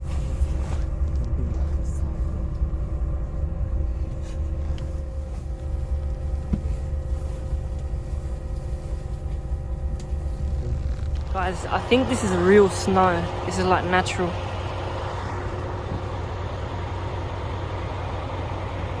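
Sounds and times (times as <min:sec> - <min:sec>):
motor vehicle engine rumble: 0:00.0 - 0:19.0.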